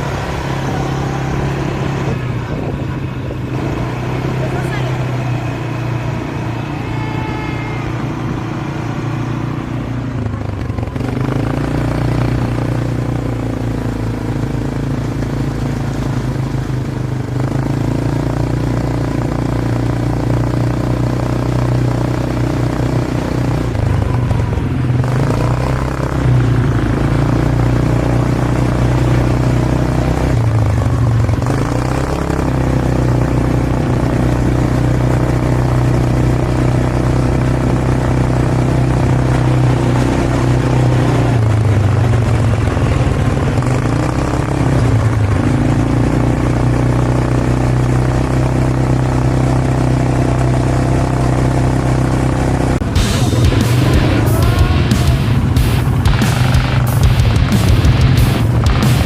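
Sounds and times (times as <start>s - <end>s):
road noise: 0.0s - 59.0s
vehicle engine running: 0.0s - 59.0s.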